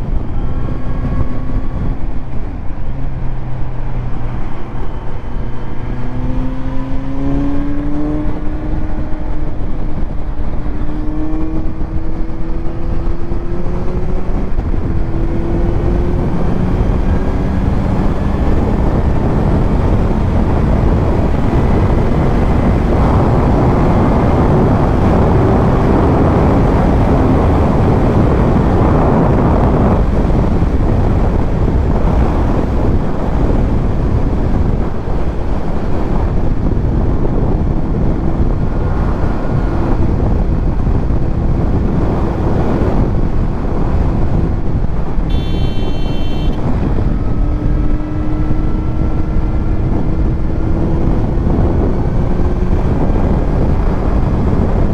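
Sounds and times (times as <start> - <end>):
motorcycle engine: 0.0 - 54.9
wind rushing over microphone: 0.0 - 54.9.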